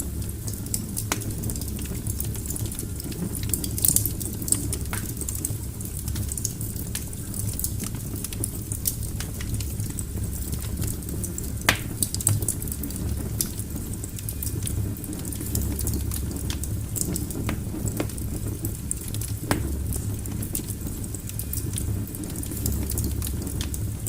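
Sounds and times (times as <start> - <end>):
burning logs crackling and popping: 0.0 - 24.0
low rumble of flame: 0.0 - 24.0.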